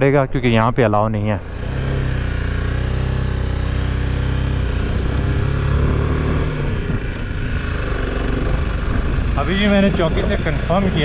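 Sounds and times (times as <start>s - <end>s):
motorcycle engine running: 1.4s - 11.0s.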